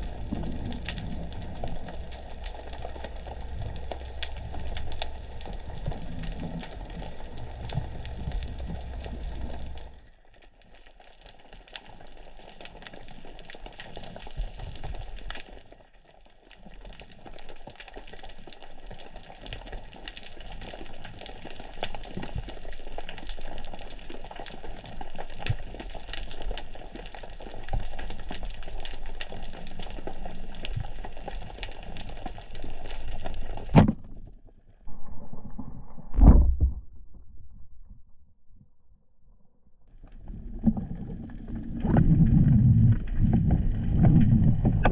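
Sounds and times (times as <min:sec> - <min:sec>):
crackling reef clicks: 0:00.0 - 0:38.8, 0:39.8 - 0:44.9
low rumble of water movement: 0:00.0 - 0:44.9.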